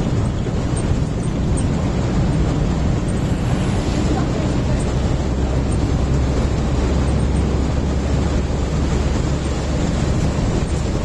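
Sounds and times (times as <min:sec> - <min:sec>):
vehicle interior road rumble: 0:00.0 - 0:11.0.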